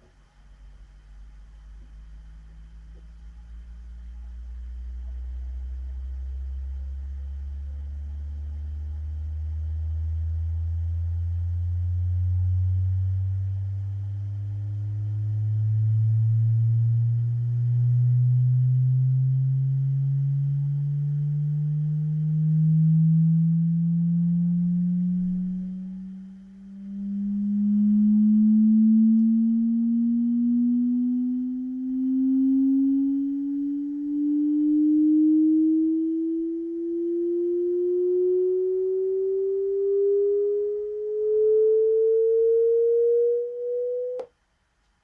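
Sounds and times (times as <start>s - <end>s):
rising sine tone from loudspeaker: 0.0s - 44.3s.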